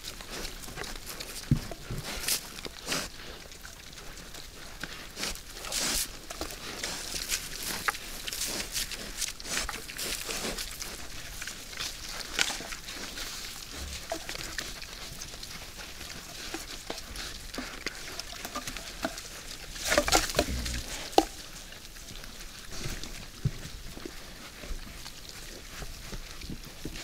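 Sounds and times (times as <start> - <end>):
wild boars feeding crunching: 0.0 - 27.0.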